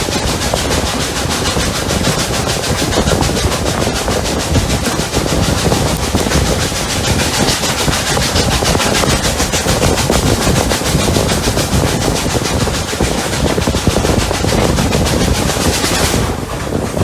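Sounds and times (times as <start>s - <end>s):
steam locomotive exhaust beats: 0.0s - 17.0s
train rumbling on rails: 0.0s - 17.0s.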